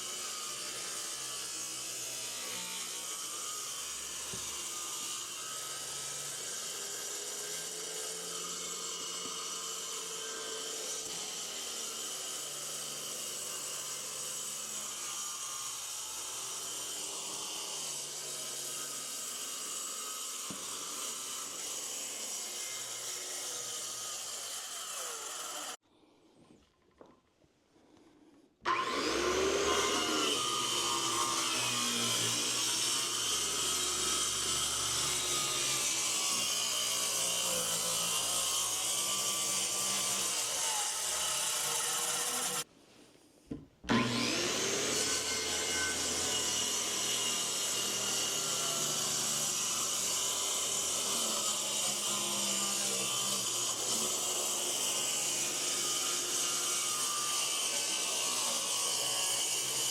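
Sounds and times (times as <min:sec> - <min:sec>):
power saw cutting wood: 0:00.0 - 0:25.8, 0:28.6 - 0:42.7, 0:43.9 - 0:59.9.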